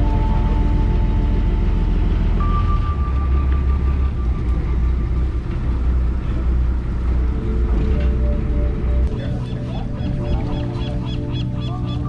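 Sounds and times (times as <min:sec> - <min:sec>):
boat engine rumble: 0:00.0 - 0:12.0
steady high tone: 0:00.0 - 0:12.0.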